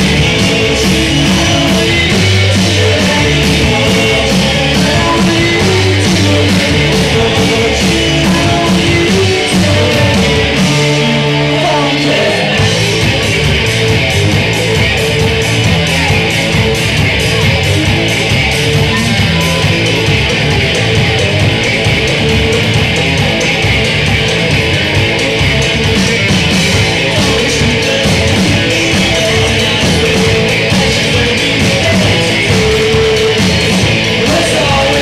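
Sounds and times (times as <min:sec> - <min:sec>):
electric guitars: 0:00.0 - 0:35.0
steady drum beat: 0:00.0 - 0:35.0.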